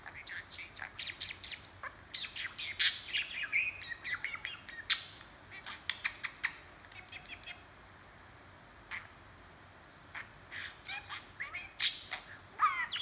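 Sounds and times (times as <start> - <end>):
budgerigar chattering: 0.0 - 7.6, 10.2 - 13.0.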